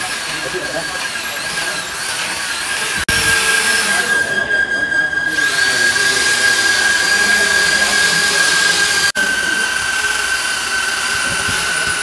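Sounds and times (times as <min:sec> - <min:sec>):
power tool motor whine: 0:00.0 - 0:12.0.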